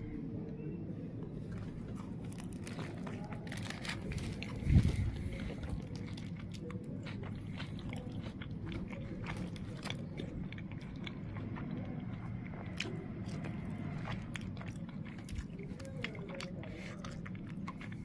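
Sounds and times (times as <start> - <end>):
crunchy chewing: 1.3 - 18.0.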